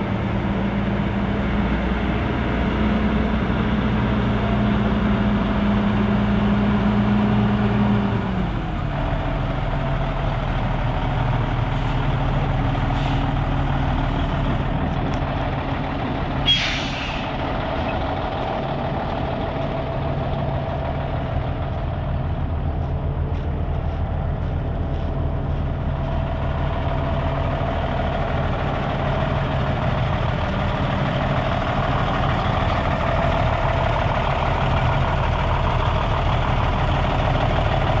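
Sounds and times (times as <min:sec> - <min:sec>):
truck diesel engine idling: 0:00.0 - 0:38.0.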